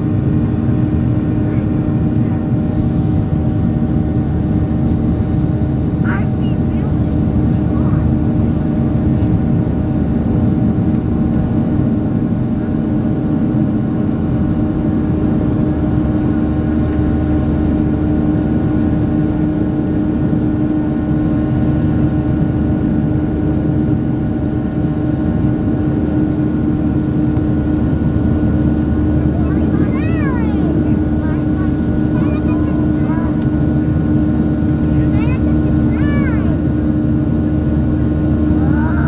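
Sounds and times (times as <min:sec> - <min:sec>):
jet engines running steadily: 0:00.0 - 0:39.0.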